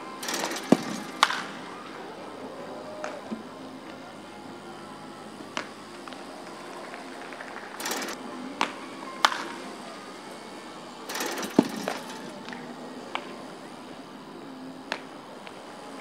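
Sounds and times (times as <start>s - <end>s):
low outdoor background: 0.0s - 16.0s.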